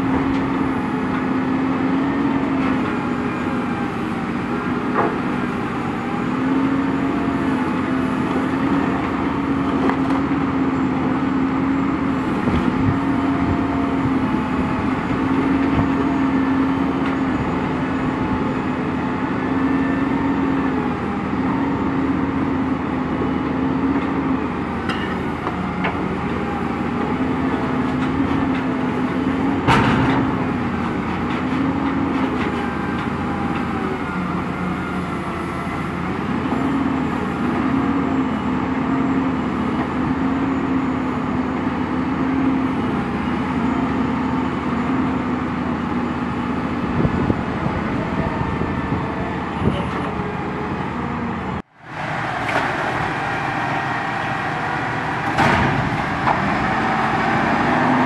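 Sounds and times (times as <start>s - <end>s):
loader engine and hydraulics humming: 0.0s - 58.0s.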